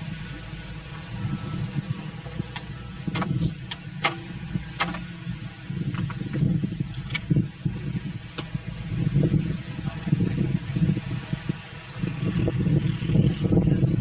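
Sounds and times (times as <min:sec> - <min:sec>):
mill engine low rumble: 0:00.0 - 0:14.0.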